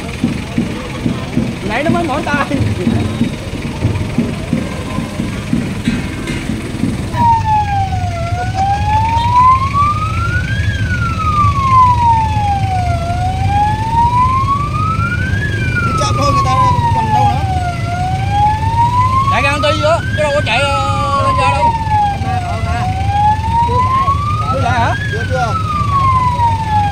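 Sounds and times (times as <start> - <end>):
siren wailing: 0.0 - 26.9
vehicle engine running: 0.0 - 26.9.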